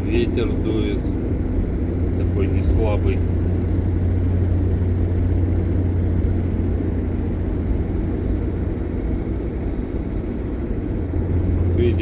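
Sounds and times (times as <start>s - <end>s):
strong blizzard wind: 0.0s - 12.0s
vehicle engine droning: 0.0s - 12.0s.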